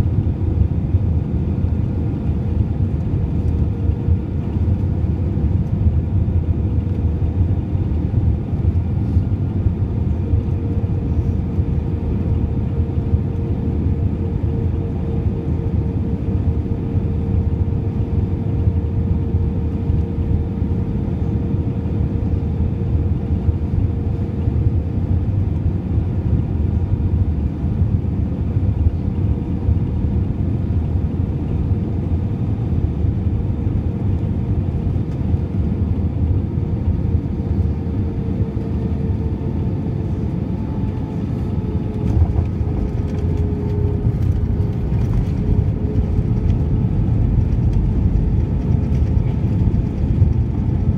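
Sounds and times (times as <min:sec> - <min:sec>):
airplane cabin rumble: 0:00.0 - 0:50.9
engine hum: 0:00.0 - 0:50.9.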